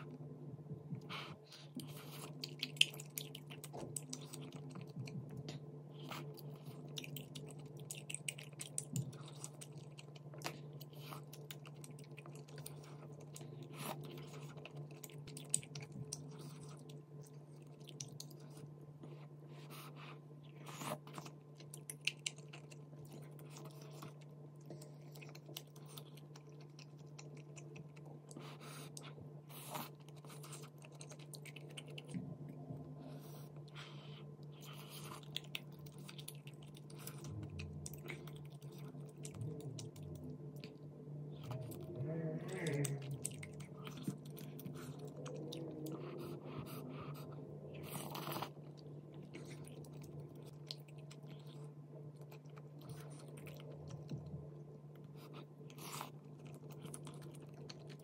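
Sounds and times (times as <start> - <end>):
chewing and wet mouth sounds: 0.0 - 58.0
steady low hum: 0.0 - 58.0.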